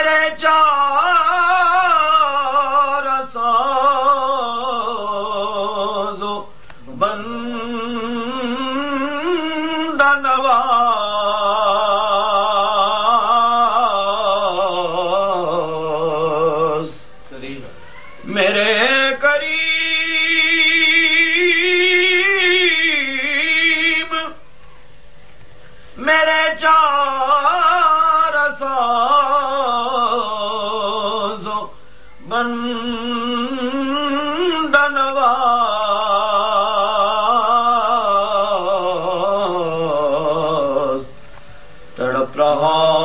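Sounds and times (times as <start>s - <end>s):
man singing: 0.0s - 17.1s, 18.2s - 24.4s, 26.0s - 41.2s, 42.0s - 43.0s
low background hum: 0.0s - 43.0s.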